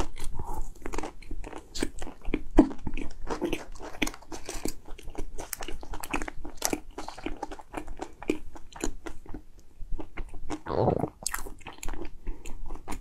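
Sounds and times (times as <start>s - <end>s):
person chewing: 0.0s - 9.4s, 10.0s - 13.0s.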